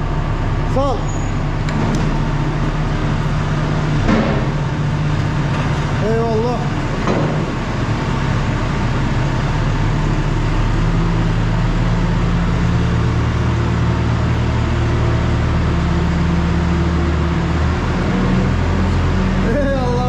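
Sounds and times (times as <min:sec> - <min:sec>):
heavy vehicle engine humming: 0:00.0 - 0:20.0.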